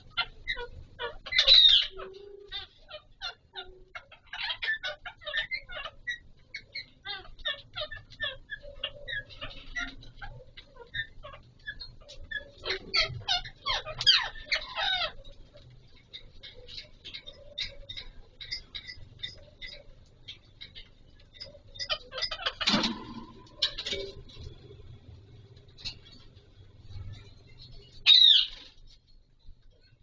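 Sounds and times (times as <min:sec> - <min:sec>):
parakeets squawking: 0:00.0 - 0:28.7
parakeets chattering and clicking: 0:00.0 - 0:30.0.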